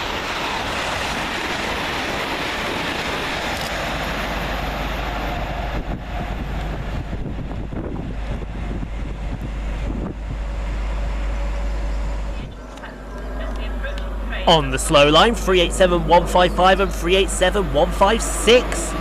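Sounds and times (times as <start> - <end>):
trains passing at speed: 0.0 - 19.0
wind buffeting microphone: 0.0 - 19.0.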